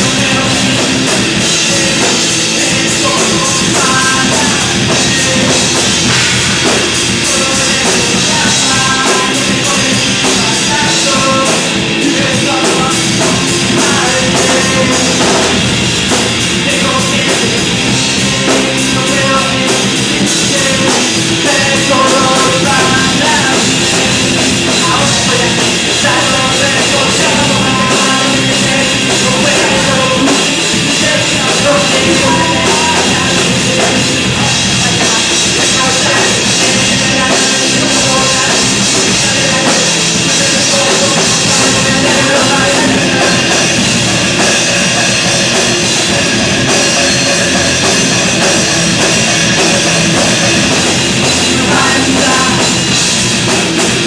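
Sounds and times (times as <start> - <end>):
acoustic-electric guitar: 0.0 - 54.0
drum kit: 0.0 - 54.0
electric guitar: 0.0 - 54.0.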